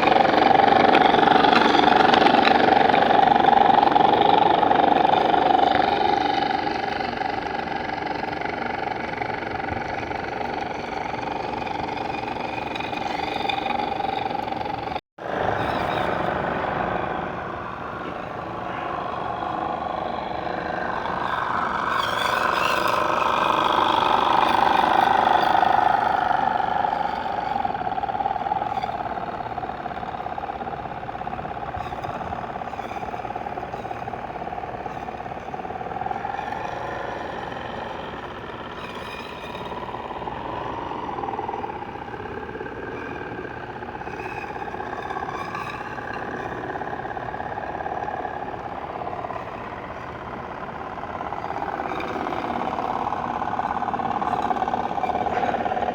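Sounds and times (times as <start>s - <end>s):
motor droning: 0.0s - 55.9s.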